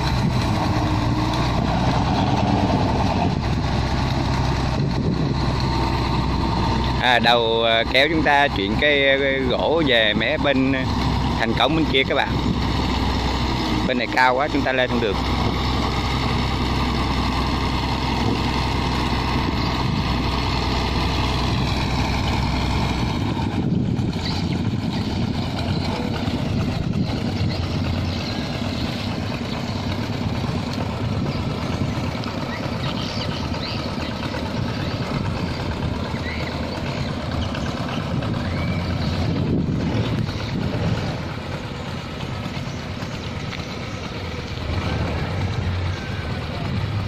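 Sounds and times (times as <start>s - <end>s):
boat diesel engine droning: 0.0s - 47.0s
rough rushing noise: 0.0s - 47.0s.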